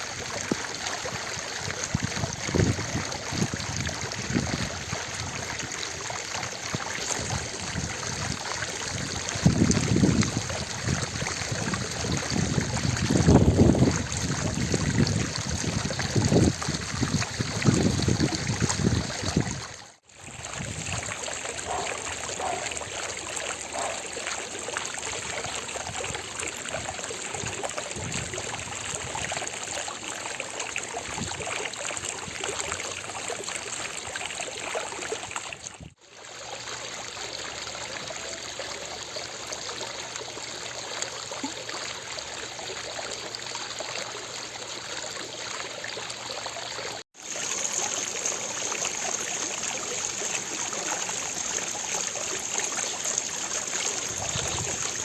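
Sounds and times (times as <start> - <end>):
water fountain splashing: 0.0 - 55.0.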